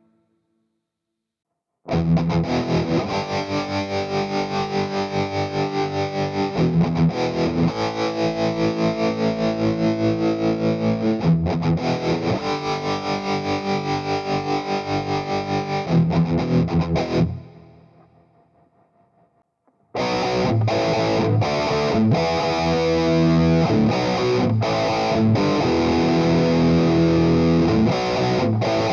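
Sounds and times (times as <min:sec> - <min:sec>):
distorted electric guitar chords: 0:01.9 - 0:19.2, 0:20.0 - 0:28.9.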